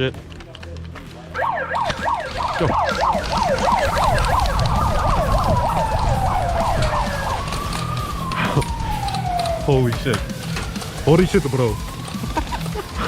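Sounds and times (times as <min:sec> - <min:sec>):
siren yelping and wailing: 0:01.3 - 0:13.0.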